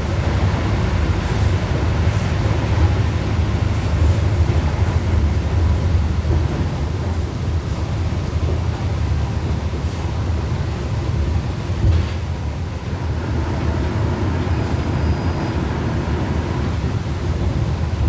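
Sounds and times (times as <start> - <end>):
bus engine low rumble: 0.0 - 18.0.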